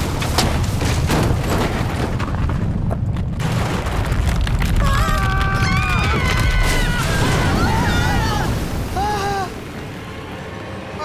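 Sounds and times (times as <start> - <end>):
crashes and booms: 0.0 - 9.0.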